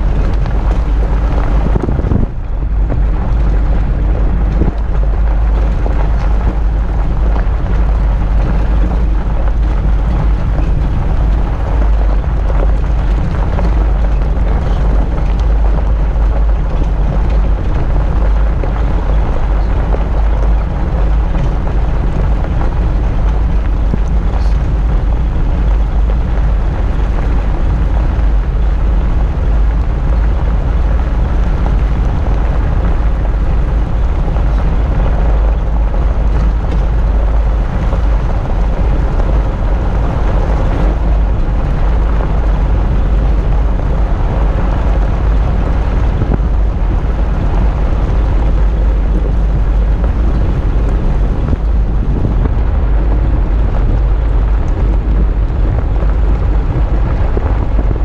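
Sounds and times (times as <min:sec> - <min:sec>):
vehicle engine and tyre noise: 0:00.0 - 0:58.0
wind rumble on microphone: 0:00.0 - 0:58.0.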